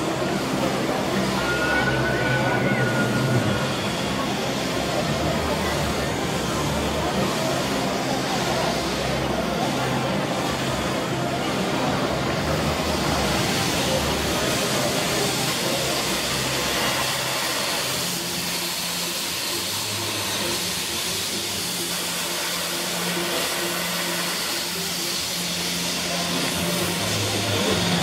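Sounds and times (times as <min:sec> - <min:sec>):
steam venting hiss: 0:00.0 - 0:28.0.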